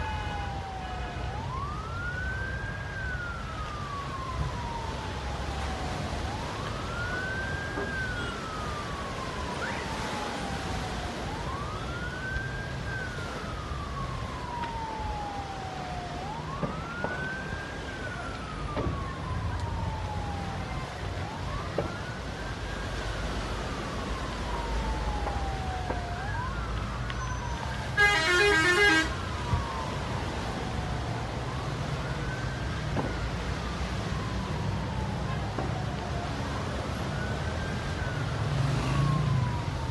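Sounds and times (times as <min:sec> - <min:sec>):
emergency siren wailing: 0:00.0 - 0:39.9.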